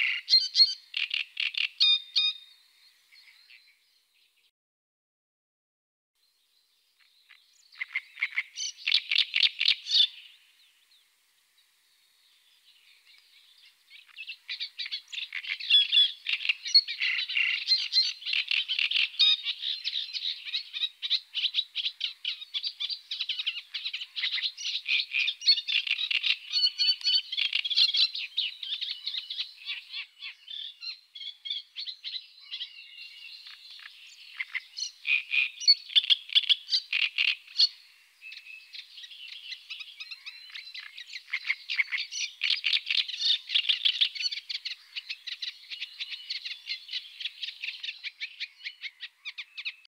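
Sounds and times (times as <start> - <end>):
warbler singing: 0.0 - 4.5, 6.2 - 49.9.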